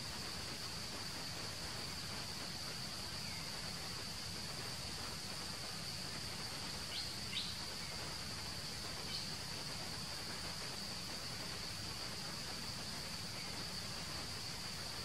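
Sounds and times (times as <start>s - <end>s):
faint insect chirps: 0.0s - 15.0s.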